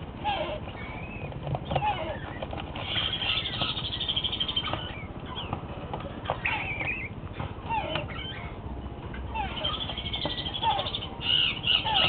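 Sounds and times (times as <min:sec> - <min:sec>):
parrot chicks squeaking: 0:00.1 - 0:12.0.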